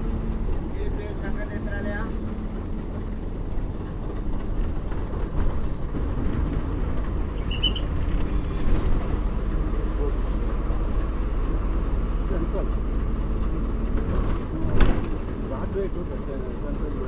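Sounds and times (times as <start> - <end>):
bus engine rumble: 0.0 - 17.0
tyres on road: 0.0 - 17.0.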